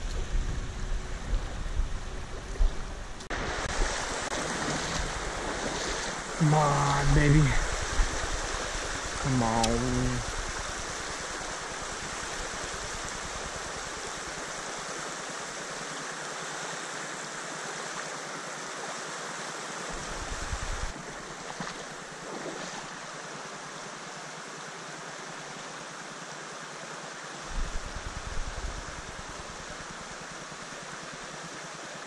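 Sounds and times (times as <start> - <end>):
stream water rushing: 2.1 - 32.0.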